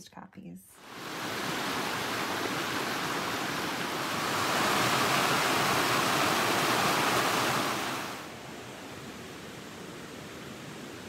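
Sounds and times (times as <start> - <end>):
creek rushing over rocks: 0.8 - 11.0.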